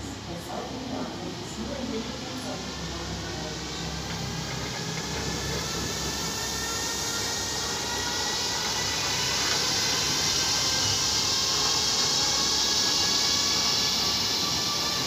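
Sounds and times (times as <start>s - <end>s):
electric locomotive passing: 0.0s - 15.0s.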